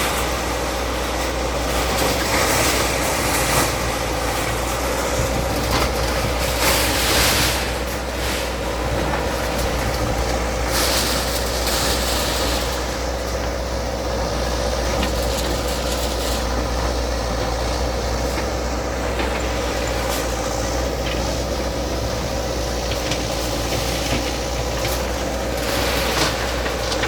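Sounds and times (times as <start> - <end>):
bulldozer engine running: 0.0 - 27.0.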